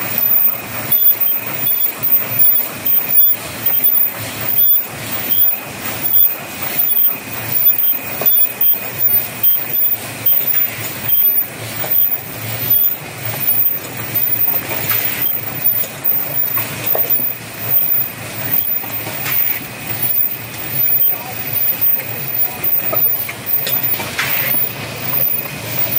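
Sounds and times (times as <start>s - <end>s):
machinery clattering: 0.0s - 25.9s
thin steady whine: 0.0s - 25.9s.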